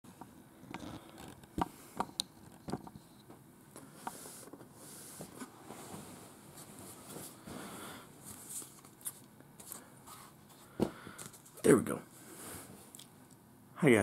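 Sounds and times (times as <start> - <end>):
soft rustling and shuffling: 0.8 - 13.0.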